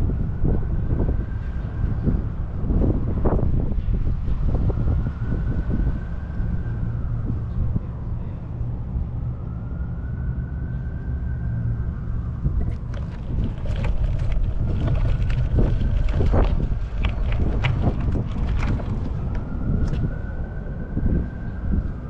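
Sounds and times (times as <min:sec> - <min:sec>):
wind rushing over microphone: 0:00.0 - 0:10.3, 0:11.7 - 0:22.0.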